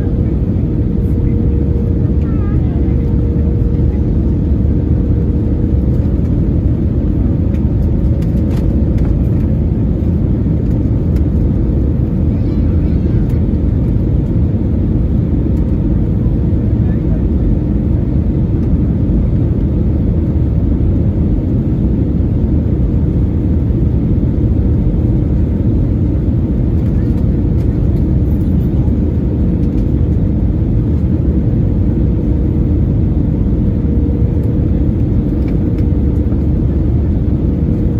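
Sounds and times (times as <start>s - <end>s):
jet engine rumble: 0.0s - 37.9s.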